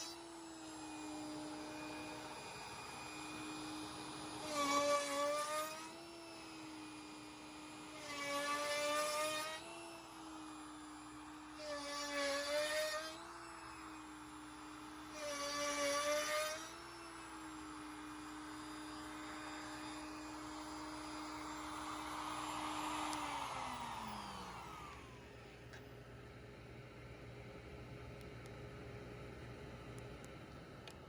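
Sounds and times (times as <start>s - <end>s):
router bit cutting wood: 0.0s - 25.5s
router spindle whine: 0.0s - 25.8s.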